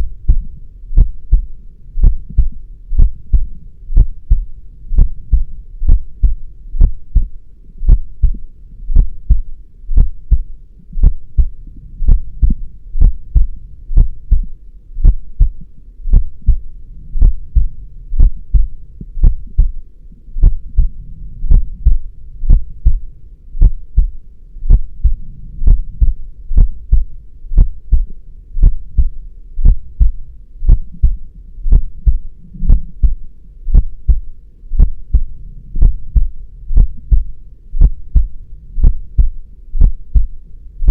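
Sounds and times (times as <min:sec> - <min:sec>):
heartbeat double thud: 0:00.3 - 0:07.3, 0:11.0 - 0:16.6, 0:17.2 - 0:19.8, 0:20.4 - 0:23.0, 0:23.6 - 0:34.2, 0:34.8 - 0:40.3.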